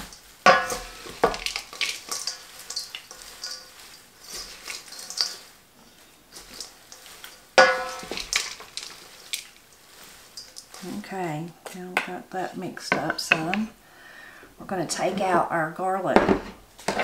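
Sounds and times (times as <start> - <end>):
salad leaves rustling and scraping: 0.0 - 13.8, 16.2 - 17.0.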